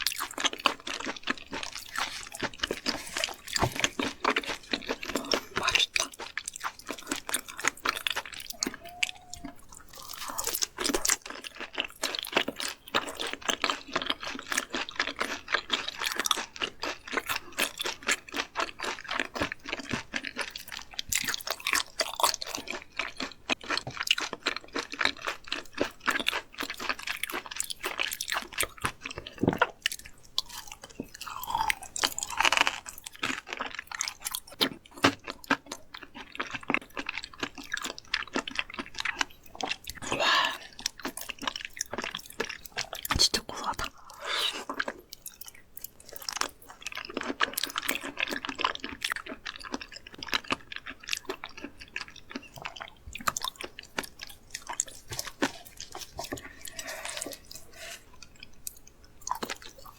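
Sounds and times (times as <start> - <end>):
wet crunchy chewing: 0.0 - 59.9.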